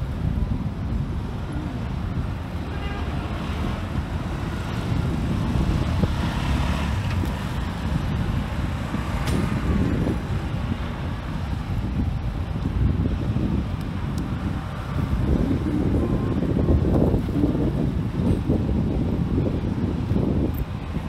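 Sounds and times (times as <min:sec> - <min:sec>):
traffic noise: 0:00.0 - 0:21.0
wind buffeting microphone: 0:00.0 - 0:21.0.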